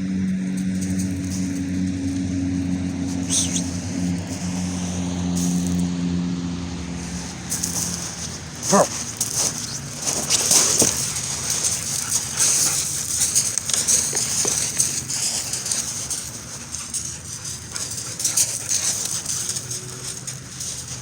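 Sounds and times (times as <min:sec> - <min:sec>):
dog sounds: 0:02.7 - 0:05.9, 0:07.1 - 0:21.0.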